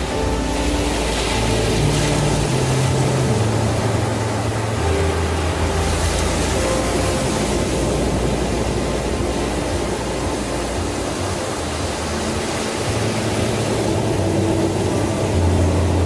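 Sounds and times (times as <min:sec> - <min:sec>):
ocean surf breaking on beach: 0:00.0 - 0:16.0.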